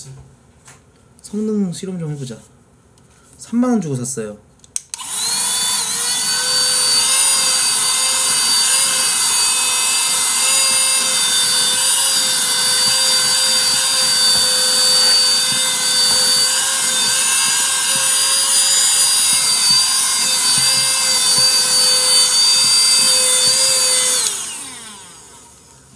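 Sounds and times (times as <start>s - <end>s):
mini vacuum cleaner whine: 5.0s - 25.9s.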